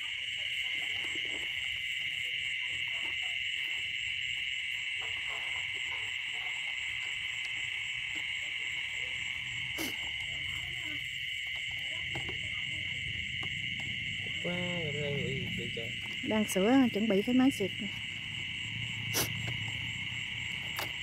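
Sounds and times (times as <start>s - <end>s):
chorus of frogs calling: 0.0s - 21.0s
pulsing insect trill: 0.0s - 21.0s.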